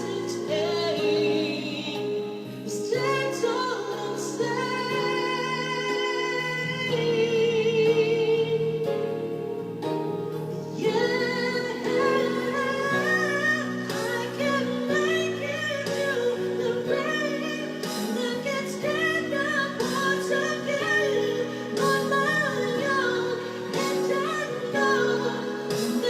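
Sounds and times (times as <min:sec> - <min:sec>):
woman singing a ballad: 0:00.0 - 0:26.0.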